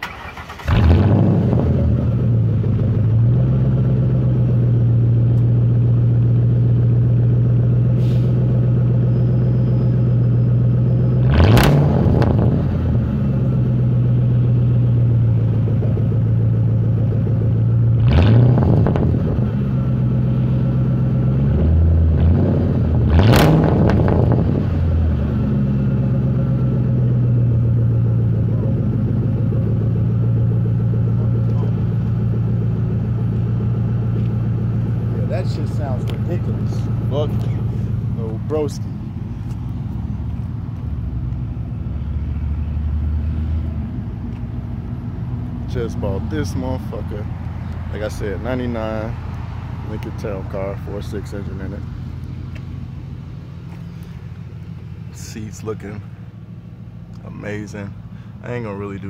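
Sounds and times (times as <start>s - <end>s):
loud engine idling and revving: 0.0s - 59.0s.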